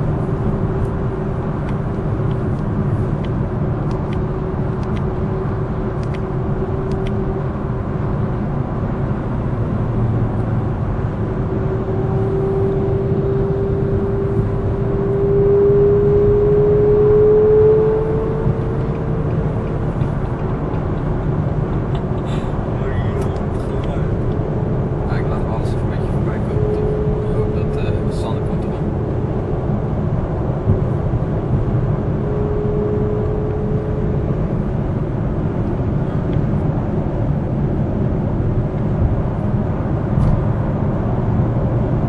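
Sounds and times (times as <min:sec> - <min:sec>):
road and engine noise in car: 0:00.0 - 0:42.0.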